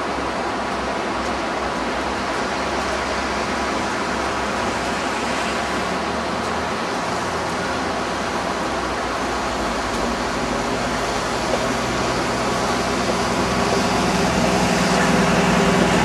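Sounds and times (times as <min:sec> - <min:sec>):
bus engines humming: 0:00.0 - 0:16.0
street traffic noise: 0:00.0 - 0:16.0.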